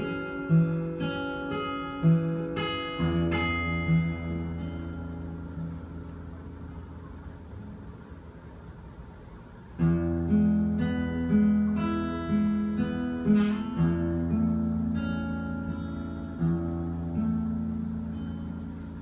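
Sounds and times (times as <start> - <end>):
acoustic guitar: 0.0 - 19.0.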